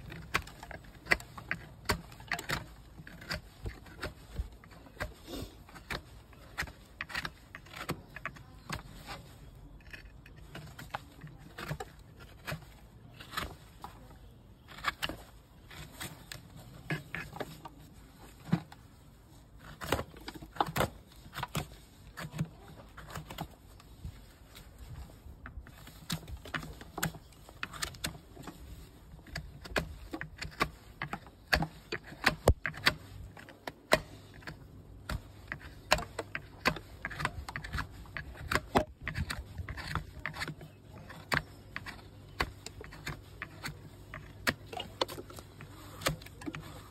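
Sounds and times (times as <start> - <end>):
knife scraping horse hoof: 0.0 - 46.9.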